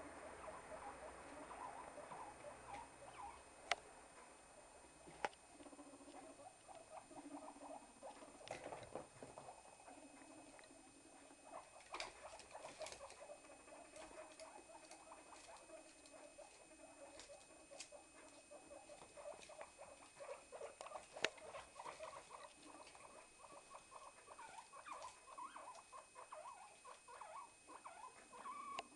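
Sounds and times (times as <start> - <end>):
rodents squeaking: 0.2 - 3.5, 5.0 - 28.9.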